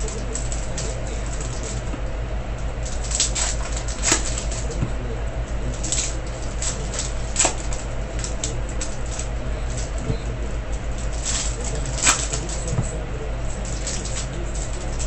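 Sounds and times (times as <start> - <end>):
foil wrappers crinkling: 0.0 - 15.0
steady low hum: 0.0 - 15.0.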